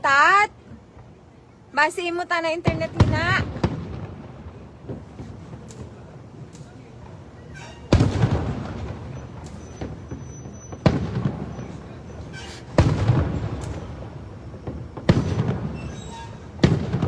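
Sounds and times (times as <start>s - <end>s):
fireworks bursting with rumble: 0.0s - 17.0s.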